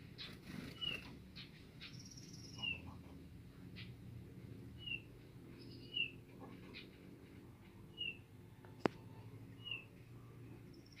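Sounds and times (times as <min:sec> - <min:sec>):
bird chirping: 0:00.0 - 0:04.1, 0:04.8 - 0:07.1, 0:07.8 - 0:11.0
faint low hum: 0:00.0 - 0:11.0.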